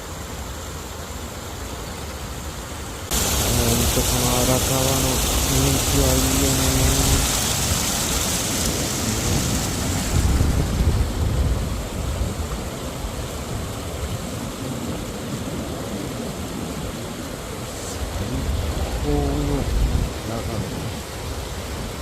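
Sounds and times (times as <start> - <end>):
mountain stream rushing: 0.0 - 22.0.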